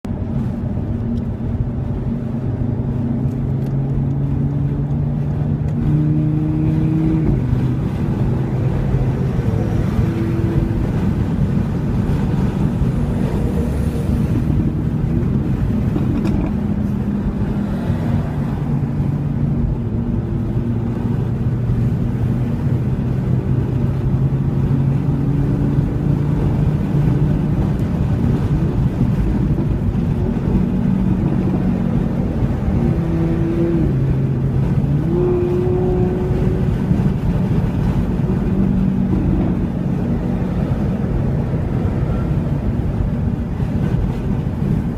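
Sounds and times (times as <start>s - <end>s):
turbocharged car engine revving: 2.1s - 44.9s.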